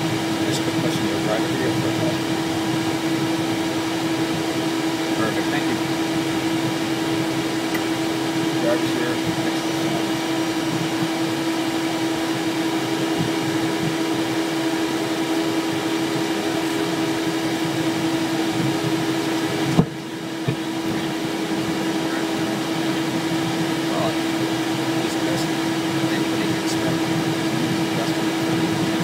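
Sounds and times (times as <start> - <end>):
jet cockpit hum: 0.0 - 29.0.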